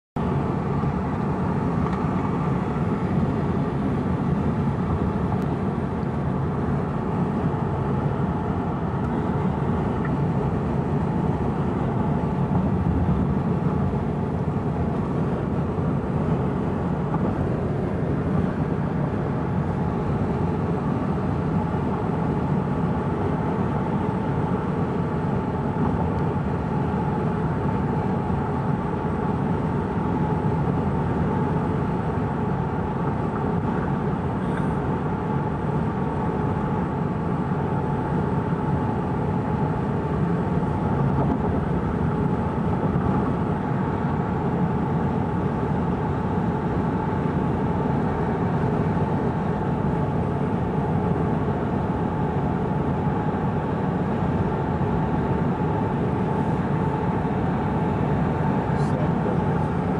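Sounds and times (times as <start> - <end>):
vehicle road and engine noise: 0.0 - 59.9.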